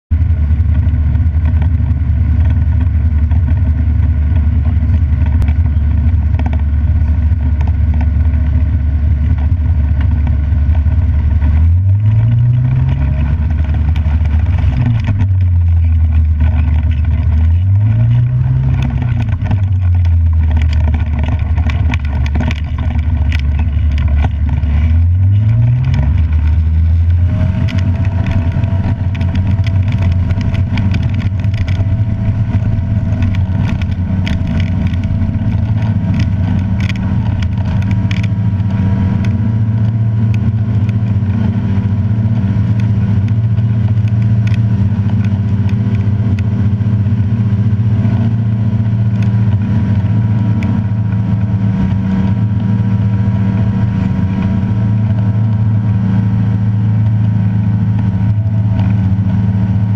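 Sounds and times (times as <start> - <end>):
light aircraft engine and propeller: 0.1 - 59.9.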